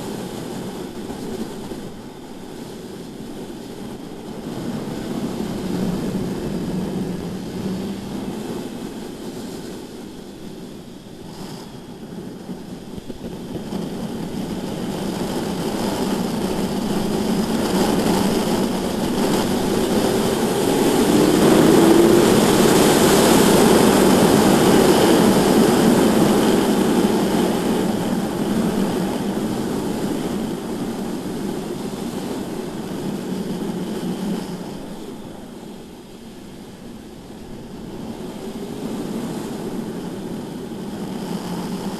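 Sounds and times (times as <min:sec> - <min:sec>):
motorcycle engine at speed: 0:00.0 - 0:35.9, 0:37.7 - 0:41.9
wind rush: 0:00.0 - 0:41.9.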